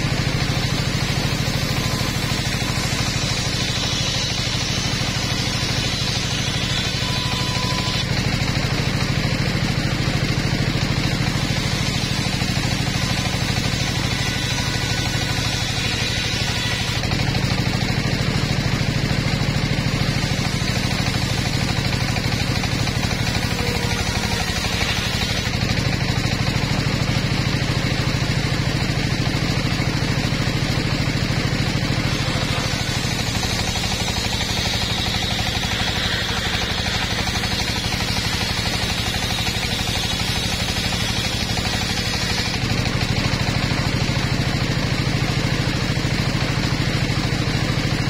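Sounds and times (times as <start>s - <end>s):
engine drone: 0.0s - 48.0s
saw blade cutting wood: 0.0s - 48.0s.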